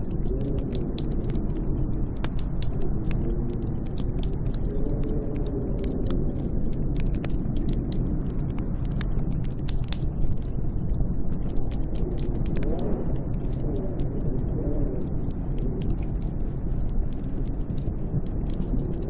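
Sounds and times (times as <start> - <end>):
small sharp crackles and pops: 0.0 - 19.0
snowstorm wind howling: 0.0 - 19.0.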